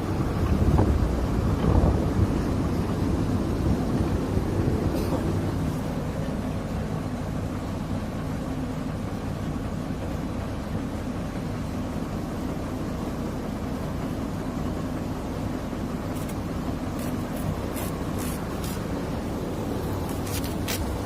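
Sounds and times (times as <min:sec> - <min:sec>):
drilling rig engine drone: 0:00.0 - 0:21.0.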